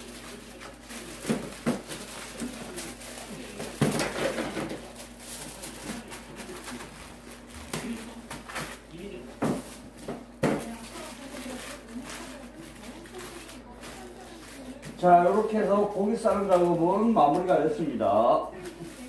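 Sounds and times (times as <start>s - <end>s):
wrapping rustling: 0.0s - 19.0s.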